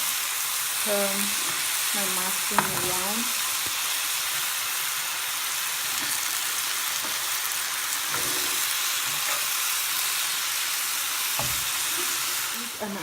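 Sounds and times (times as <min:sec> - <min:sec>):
mushrooms sizzling in a pan: 0:00.0 - 0:13.0.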